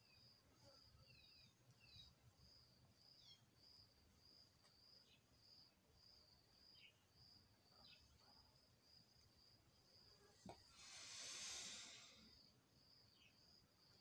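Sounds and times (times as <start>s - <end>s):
insect chirping faintly: 0.0s - 14.0s.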